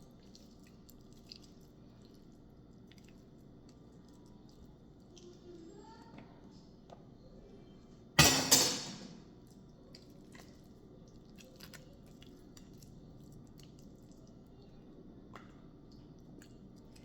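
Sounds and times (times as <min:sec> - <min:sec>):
kitchen food preparation sounds: 0:00.0 - 0:17.0.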